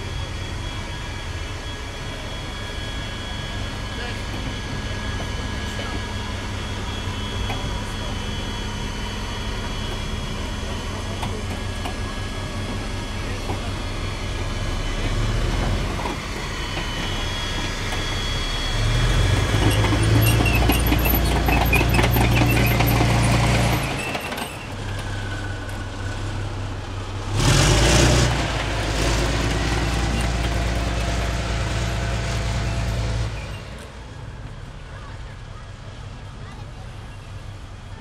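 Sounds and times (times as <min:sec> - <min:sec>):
tracks clanking and squeaking: 0:00.0 - 0:35.7
tank engine running: 0:00.0 - 0:38.0.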